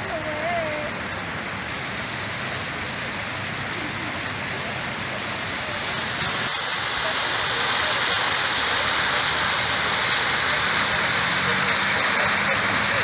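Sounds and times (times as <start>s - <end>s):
water splashing from fountain: 0.0s - 13.0s.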